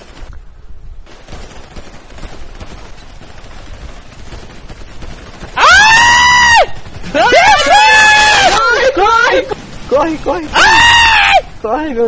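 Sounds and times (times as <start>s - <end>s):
rapid gunfire: 0.0s - 0.4s, 1.0s - 12.0s.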